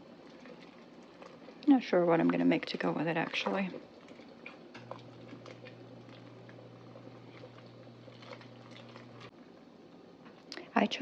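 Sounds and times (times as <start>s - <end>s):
soup bubbling in a pot: 0.0s - 10.5s
low steady hum: 0.0s - 11.0s.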